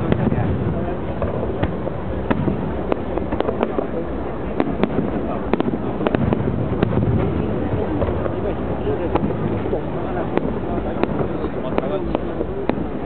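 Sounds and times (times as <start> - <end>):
crowd chatter: 0.0 - 13.0
fireworks bursting: 0.0 - 13.0.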